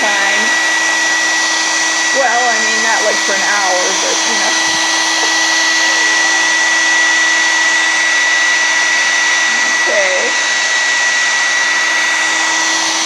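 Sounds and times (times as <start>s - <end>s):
hairdryer running: 0.0s - 13.0s.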